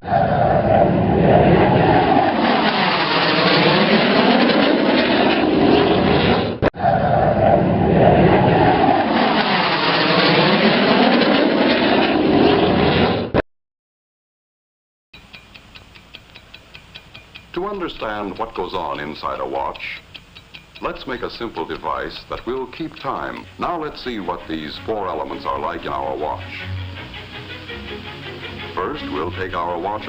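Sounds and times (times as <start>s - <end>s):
aircraft engine roar: 0.0s - 13.3s, 15.2s - 30.0s.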